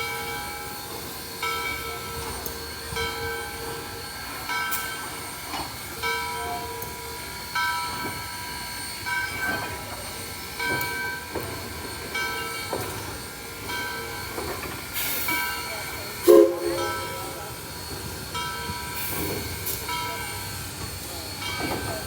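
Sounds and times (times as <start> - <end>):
train bell ringing: 0.0 - 22.0.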